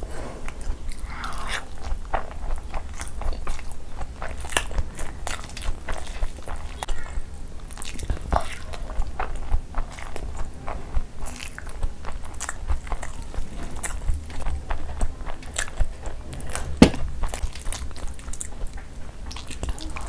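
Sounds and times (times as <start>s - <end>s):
chewing with mouth clicks: 0.4s - 20.0s
fingers squishing soft food: 0.4s - 20.0s.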